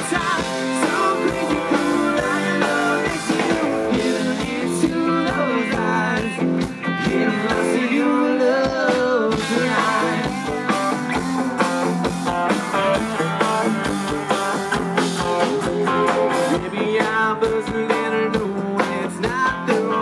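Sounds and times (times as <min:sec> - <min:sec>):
country rock band playing: 0:00.0 - 0:20.0.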